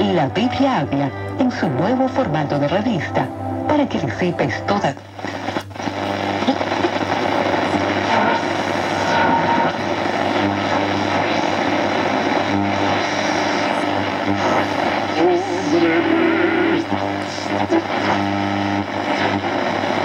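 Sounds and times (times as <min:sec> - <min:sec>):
radio static and hiss: 0:00.0 - 0:20.0.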